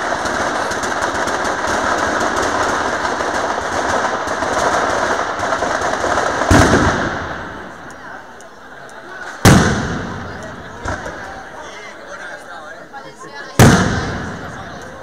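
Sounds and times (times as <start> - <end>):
firecrackers crackling: 0.0 - 8.4, 9.2 - 11.5, 13.5 - 15.0.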